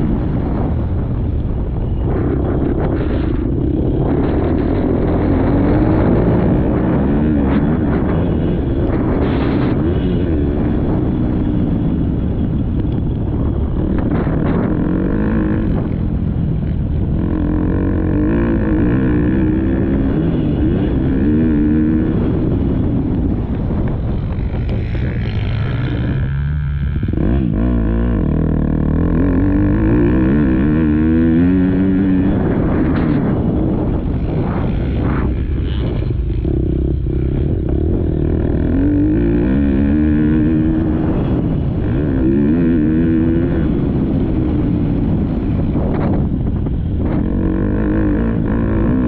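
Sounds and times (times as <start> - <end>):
wind buffeting microphone: 0.0 - 49.0
dirt bike engine revving: 2.1 - 49.0.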